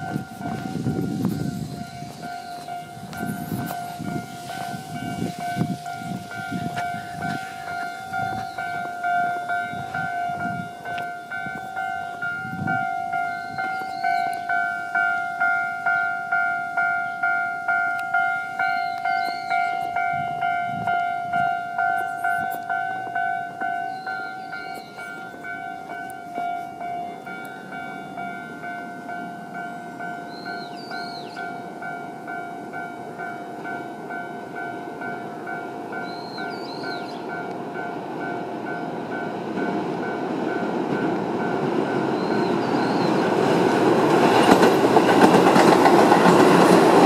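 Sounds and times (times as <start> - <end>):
electronic crossing alarm bell: 0.0 - 47.0
train rumbling: 0.0 - 47.0.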